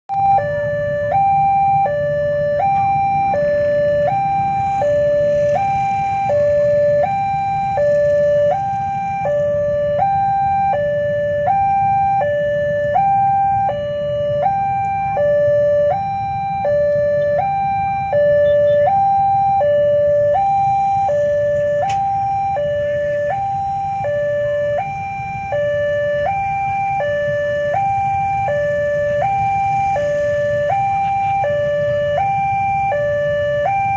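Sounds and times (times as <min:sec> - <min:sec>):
two-tone hi-lo siren: 0:00.1 - 0:33.9.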